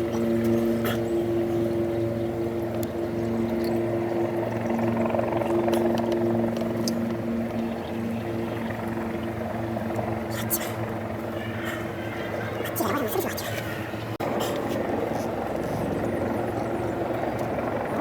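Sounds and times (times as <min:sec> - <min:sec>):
steady engine hum: 0:00.0 - 0:18.0.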